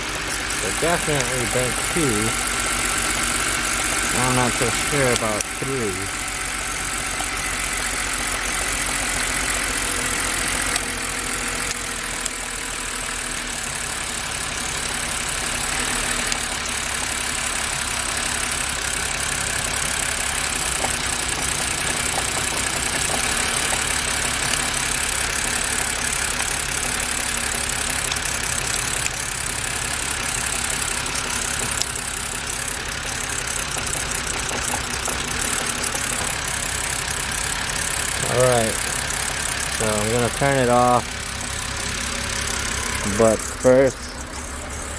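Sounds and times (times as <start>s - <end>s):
car engine idling roughly: 0.0s - 44.9s.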